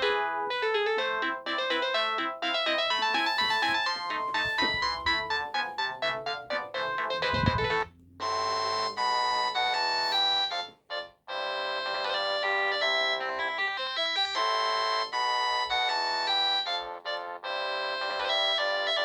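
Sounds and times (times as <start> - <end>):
polyphonic ringtone melody: 0.0 - 19.0.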